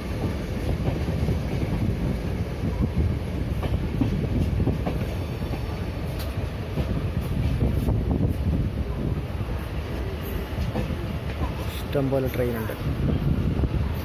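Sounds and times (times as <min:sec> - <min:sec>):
train coach rumbling on track: 0:00.0 - 0:14.0.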